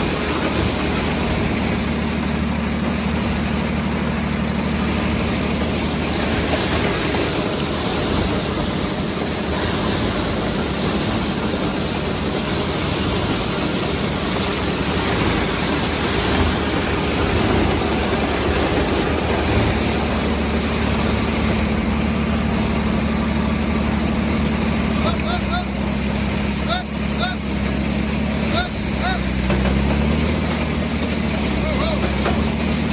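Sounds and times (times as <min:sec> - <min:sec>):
combine machinery running: 0:00.0 - 0:32.9
tractor engine under load: 0:00.0 - 0:32.9.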